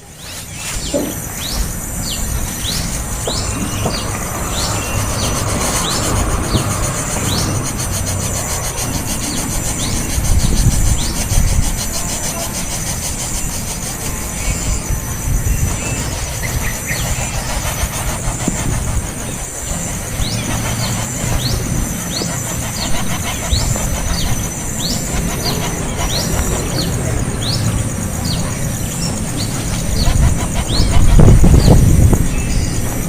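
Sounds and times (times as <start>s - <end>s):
small bird chirping: 0.0s - 33.0s
high-pitched drone: 0.9s - 33.0s.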